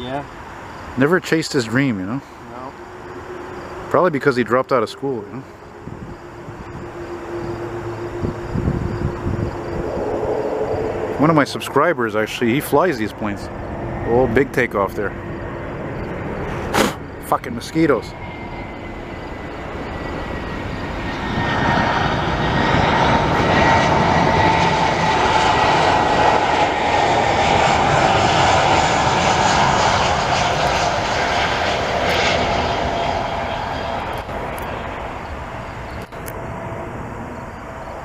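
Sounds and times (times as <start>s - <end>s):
jet airliner engines passing: 0.0s - 38.0s
high engine whine falling in pitch: 1.8s - 38.0s.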